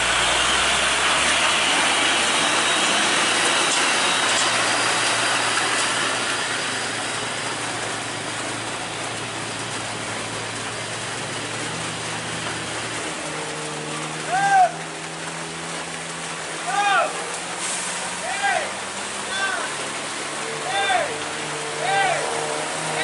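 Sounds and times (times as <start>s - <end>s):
heavy truck engine humming: 0.0s - 23.0s.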